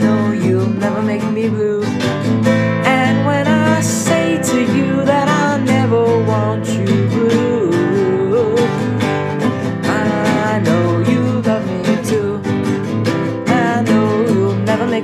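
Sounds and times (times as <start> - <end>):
strummed acoustic guitar song: 0.0 - 15.0.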